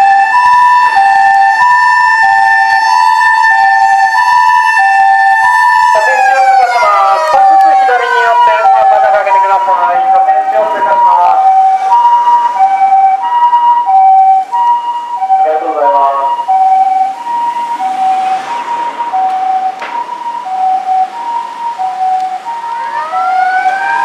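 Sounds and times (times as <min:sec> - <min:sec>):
mechanical motor siren wail: 0:00.0 - 0:24.0
two-tone hi-lo siren: 0:00.0 - 0:24.0.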